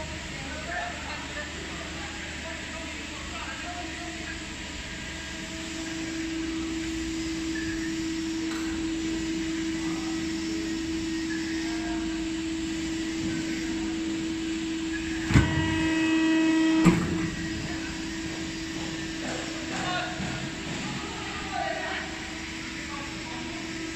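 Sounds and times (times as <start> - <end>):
machine whine: 0.0 - 23.9
punching press humming: 4.2 - 23.9.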